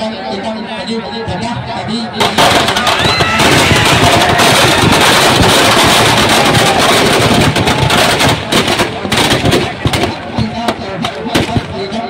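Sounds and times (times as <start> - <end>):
firecrackers crackling bangs: 2.2 - 12.0.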